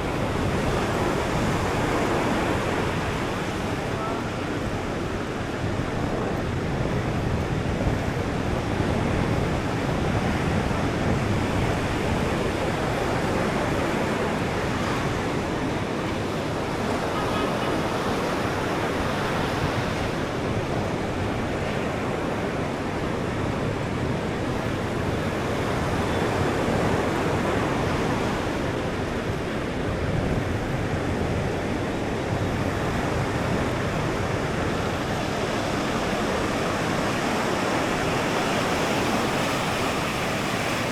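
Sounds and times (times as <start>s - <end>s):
ocean surf breaking on beach: 0.0s - 40.9s.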